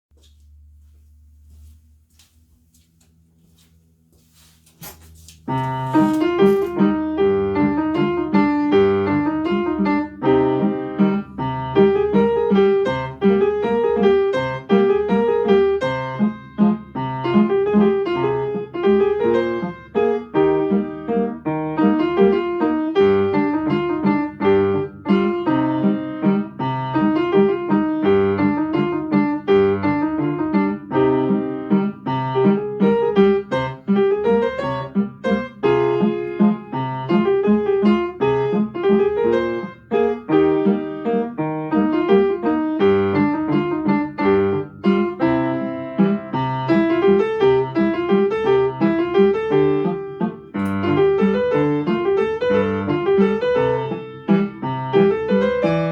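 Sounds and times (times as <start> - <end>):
solo piano playing: 4.9 - 55.9.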